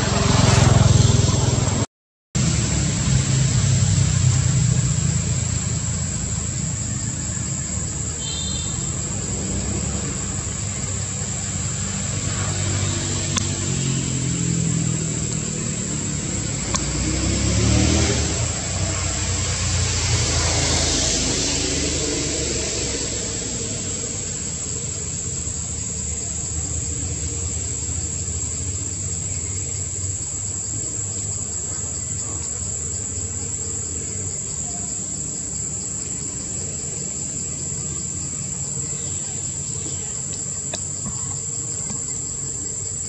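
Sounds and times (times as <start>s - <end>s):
motor vehicle passing: 0.0s - 8.2s, 8.8s - 43.0s
high insect drone: 2.4s - 43.0s.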